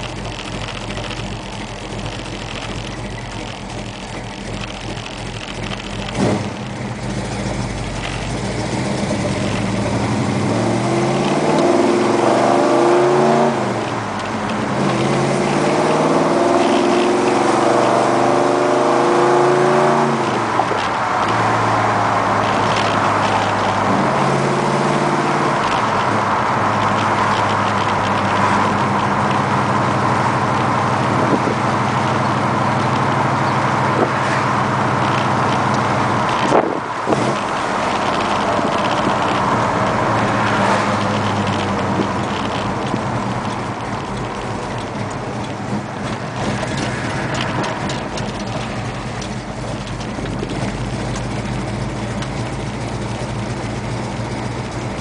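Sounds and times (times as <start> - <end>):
car engine accelerating and shifting: 0.0 - 55.0.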